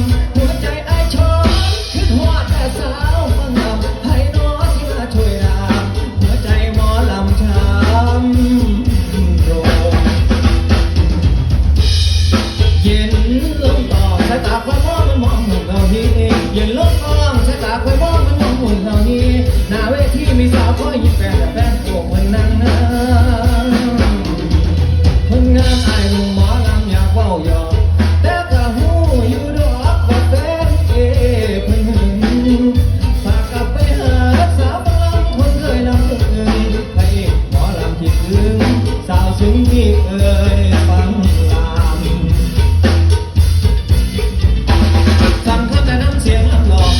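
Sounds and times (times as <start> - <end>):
live band playing pop song: 0.0 - 46.9.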